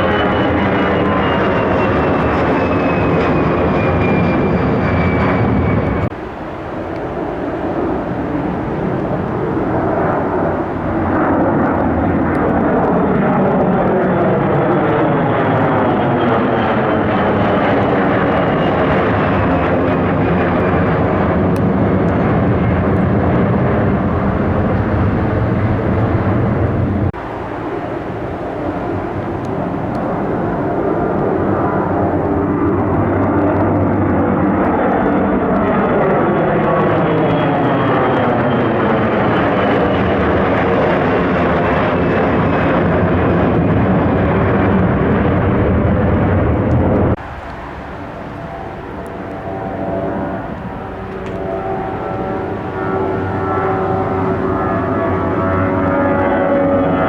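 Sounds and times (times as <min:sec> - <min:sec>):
airplane engines passing: 0:00.0 - 0:57.0.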